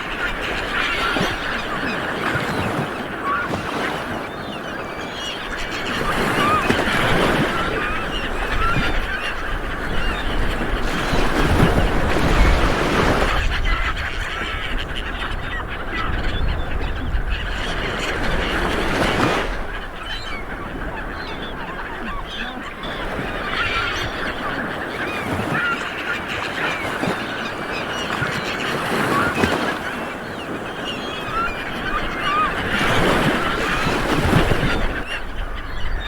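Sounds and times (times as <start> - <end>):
birds calling: 0.0 - 36.0
small waves washing onto beach: 0.0 - 36.0.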